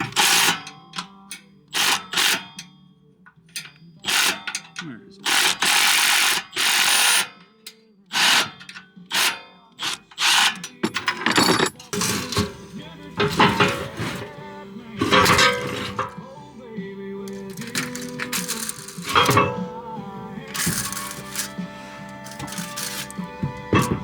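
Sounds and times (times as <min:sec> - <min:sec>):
metallic clanks of tools: 0:00.0 - 0:16.3, 0:17.3 - 0:24.0
background music with held tones: 0:00.0 - 0:24.0.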